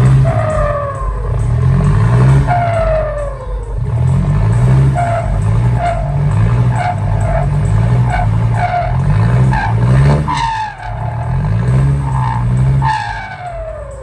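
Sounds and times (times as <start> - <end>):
diesel truck engine revving: 0.0 - 14.0
wheels squealing while spinning: 0.0 - 14.0.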